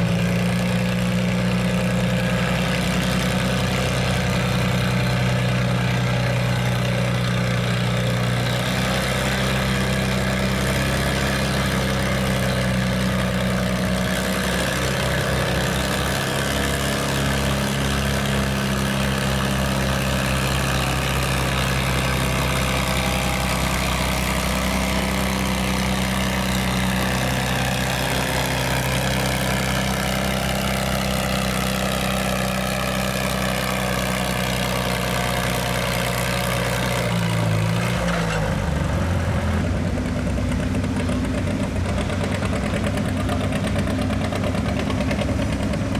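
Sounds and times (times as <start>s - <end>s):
tractor engine humming: 0.0s - 45.9s.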